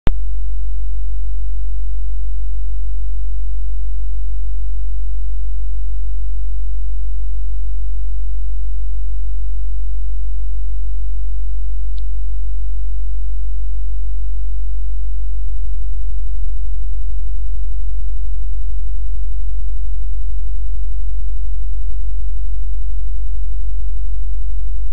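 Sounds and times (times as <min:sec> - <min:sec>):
loud low hum: 0:00.0 - 0:24.9.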